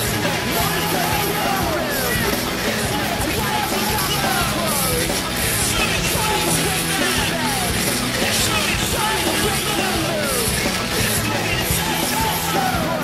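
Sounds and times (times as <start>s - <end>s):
crowd voices yelling: 0.0s - 13.0s
live rock band playing: 0.0s - 13.0s.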